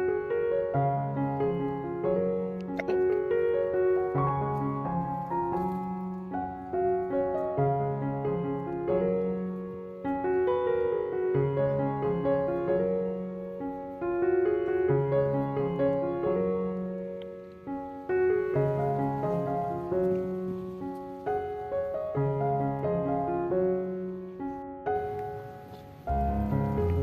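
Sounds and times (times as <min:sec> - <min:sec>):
gentle slow piano piece: 0:00.0 - 0:27.0.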